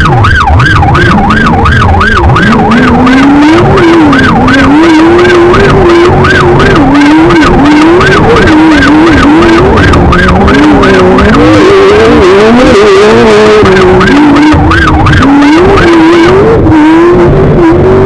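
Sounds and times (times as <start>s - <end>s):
electronic warning siren warbling: 0.0s - 18.0s
race car engine revving: 0.0s - 18.0s.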